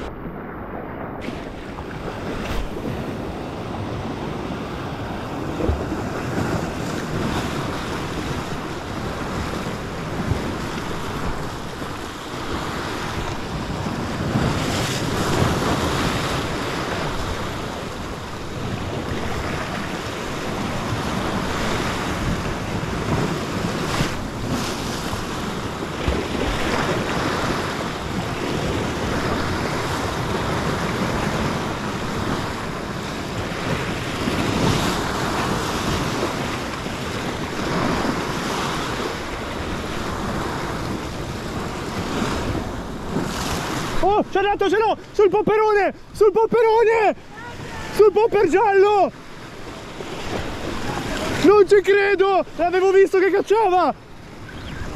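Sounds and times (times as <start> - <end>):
sea surf washing over rocks: 0.0 - 54.9.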